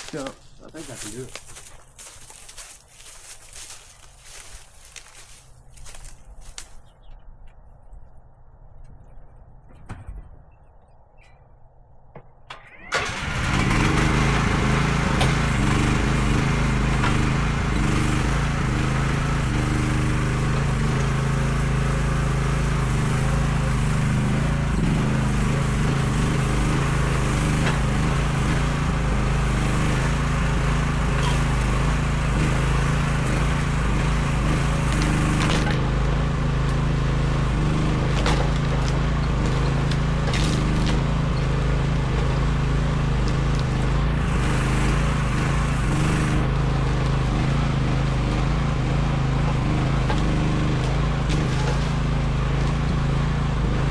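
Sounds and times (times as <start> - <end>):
mini excavator engine running: 0.0 - 7.2, 12.4 - 53.9.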